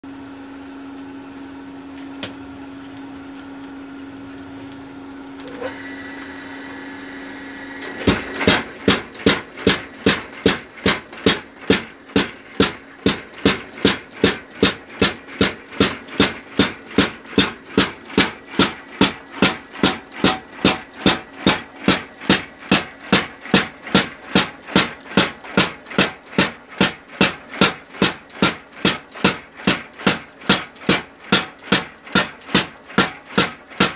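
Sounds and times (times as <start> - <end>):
power hammer striking hot steel: 2.0 - 2.5, 5.4 - 33.9.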